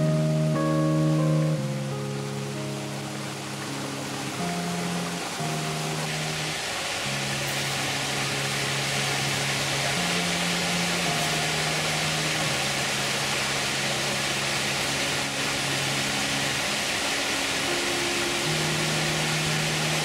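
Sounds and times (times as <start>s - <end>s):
soft background music: 0.0s - 20.0s
waterfall rushing over rocks: 0.0s - 20.0s.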